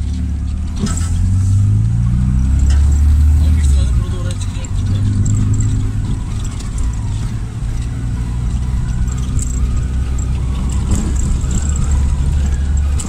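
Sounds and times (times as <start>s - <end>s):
car engine droning: 0.0s - 13.0s
light clicks and rattles: 2.5s - 13.0s.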